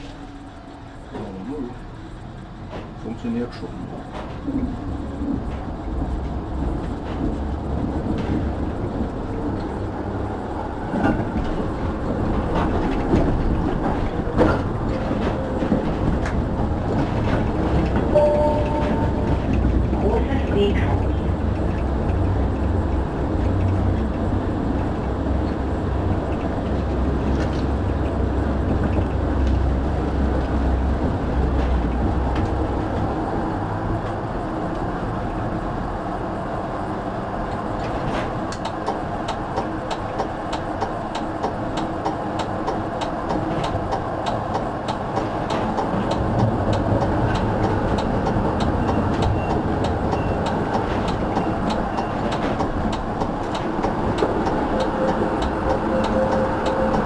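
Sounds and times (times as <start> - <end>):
tram wheels rumbling on track: 0.0 - 57.0.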